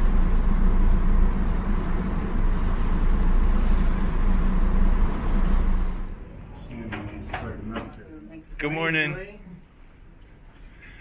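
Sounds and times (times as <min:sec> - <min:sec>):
sea water rushing along hull: 0:00.0 - 0:11.0.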